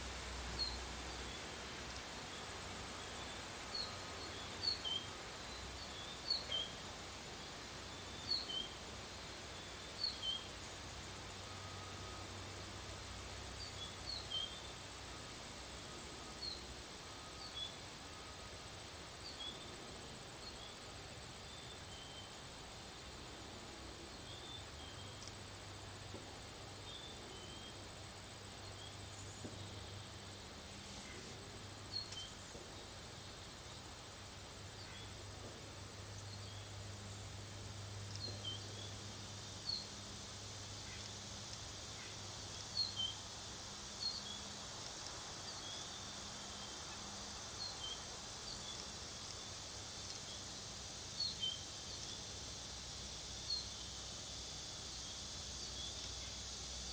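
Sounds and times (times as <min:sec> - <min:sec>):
high thin insect hum: 0:00.0 - 0:56.9.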